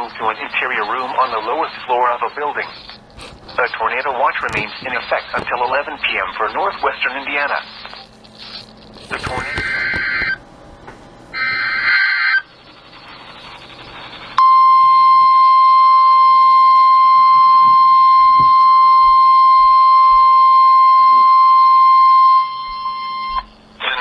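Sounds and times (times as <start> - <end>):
steady radio warning alarm tone: 0.0 - 10.4, 11.3 - 24.0.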